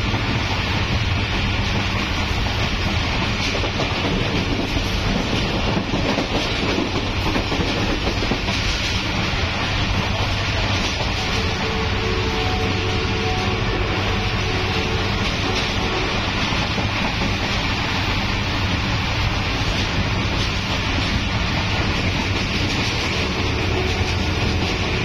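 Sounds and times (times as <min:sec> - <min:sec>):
train wheels running on rails: 0:00.0 - 0:25.0.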